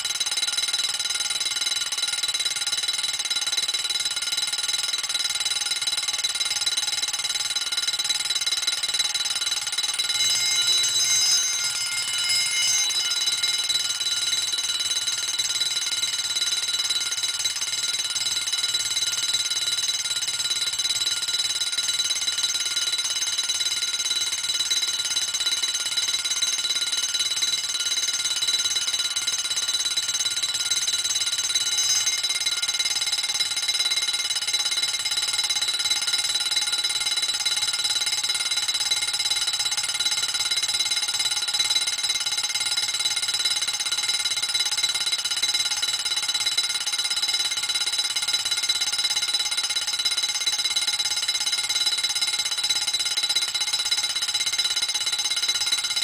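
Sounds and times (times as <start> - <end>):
fire alarm bell ringing: 4.4 - 56.0.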